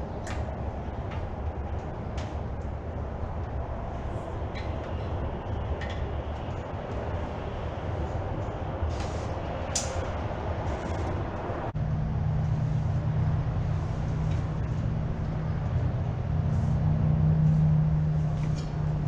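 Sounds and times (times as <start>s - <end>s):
tractor engine humming: 0.0s - 19.0s.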